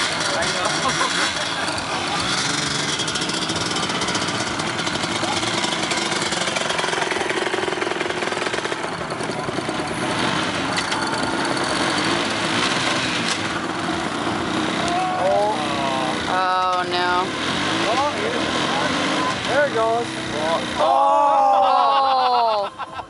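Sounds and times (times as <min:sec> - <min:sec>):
wheels spinning on grass: 0:00.0 - 0:21.0
atv engine running hard: 0:00.0 - 0:23.0.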